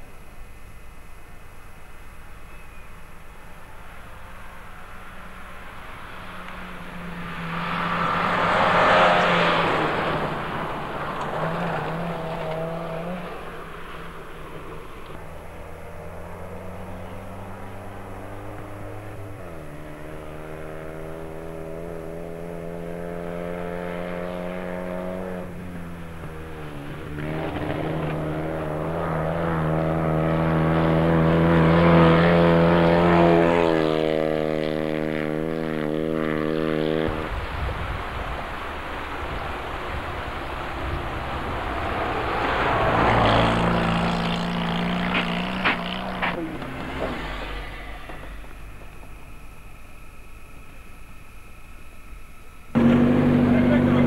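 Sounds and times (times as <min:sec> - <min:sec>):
rally car engines at full throttle: 0:01.4 - 0:54.0.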